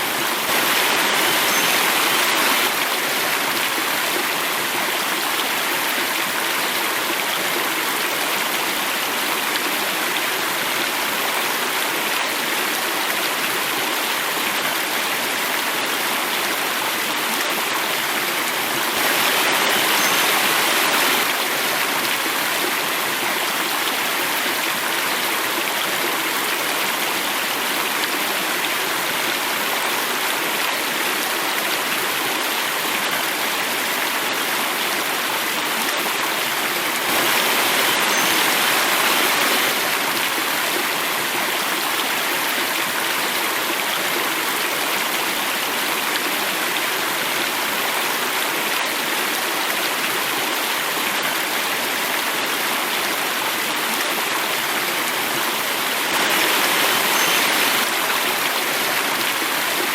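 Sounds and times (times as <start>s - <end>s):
stream rushing over cascade: 0.0s - 59.9s.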